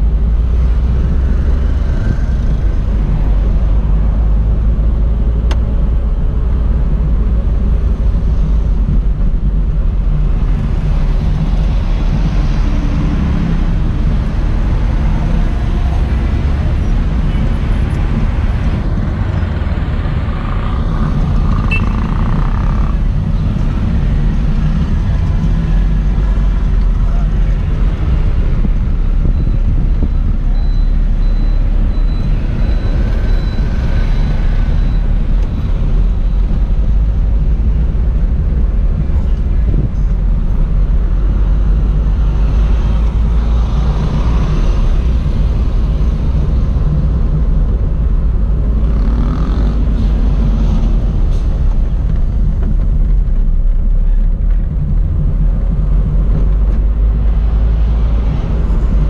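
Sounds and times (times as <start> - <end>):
car engine and road noise: 0.0 - 59.0
surrounding traffic: 0.0 - 59.0.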